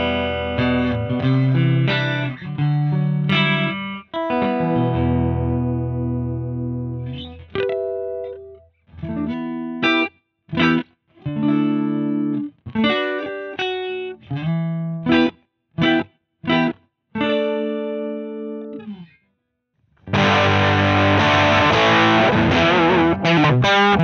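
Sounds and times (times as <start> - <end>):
electric guitar chords: 0.0 - 19.2, 20.0 - 24.0.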